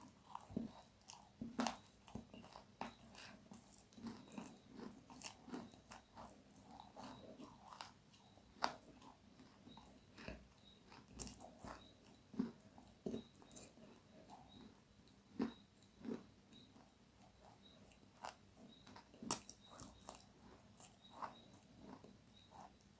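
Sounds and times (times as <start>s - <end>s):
chewing crunchy food: 0.0s - 22.9s.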